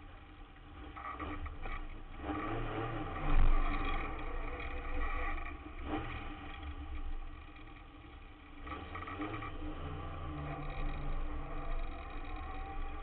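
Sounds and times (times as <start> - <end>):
race car engine running at low speed: 0.0 - 13.0.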